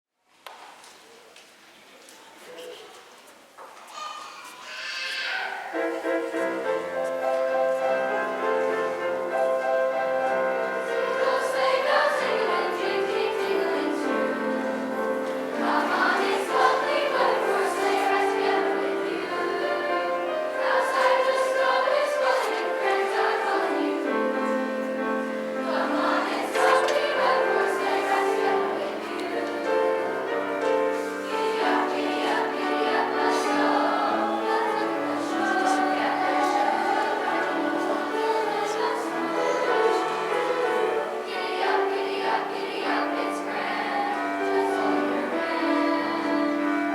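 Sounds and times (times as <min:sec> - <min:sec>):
school choir singing: 0:04.7 - 0:46.9
instrumental accompaniment: 0:05.8 - 0:46.9.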